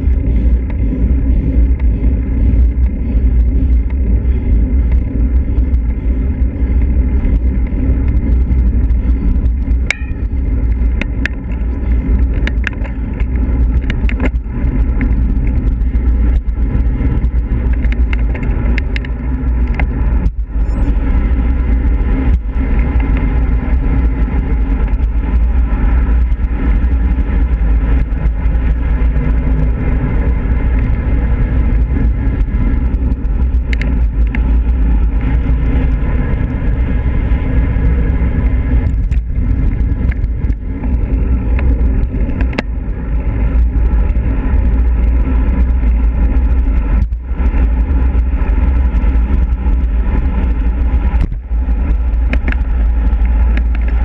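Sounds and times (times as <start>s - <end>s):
tyre and road noise: 0.0s - 54.0s
wind rushing over microphone: 0.0s - 54.0s.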